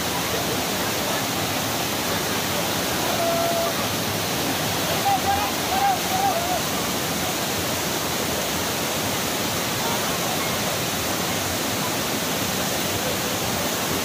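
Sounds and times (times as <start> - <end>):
rushing river rapids: 0.0 - 14.0.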